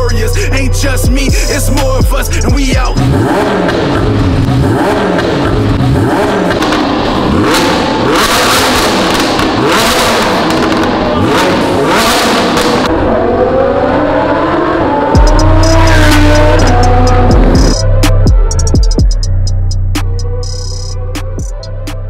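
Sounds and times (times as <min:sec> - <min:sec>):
car engine free revving: 0:00.0 - 0:18.6.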